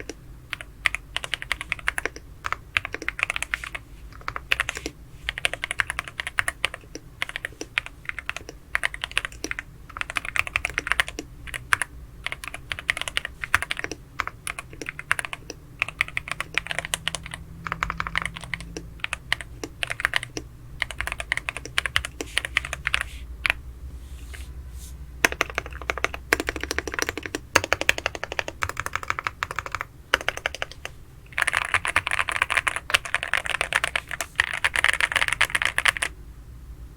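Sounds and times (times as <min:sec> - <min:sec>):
mechanical keyboard typing: 0:00.0 - 0:23.6, 0:25.2 - 0:36.1.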